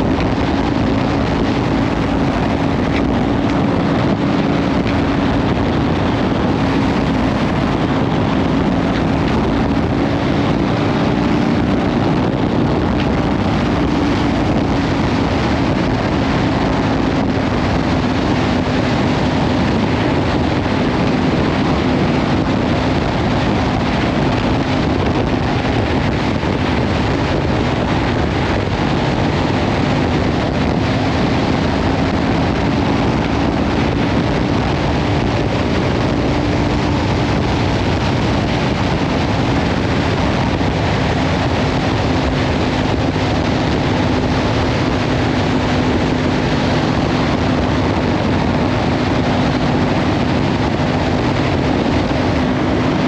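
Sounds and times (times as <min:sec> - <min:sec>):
motorcycle engine cruising: 0:00.0 - 0:53.0
wind noise on microphone: 0:00.0 - 0:53.0.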